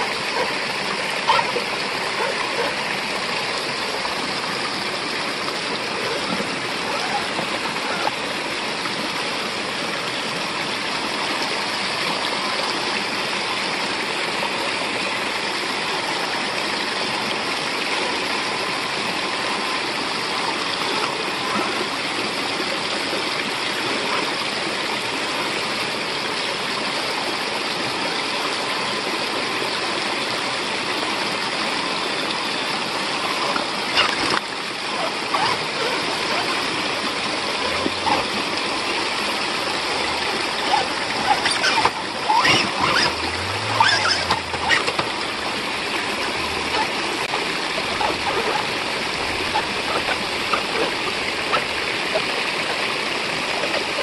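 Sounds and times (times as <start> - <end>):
water rushing down waterfall: 0.0 - 54.0.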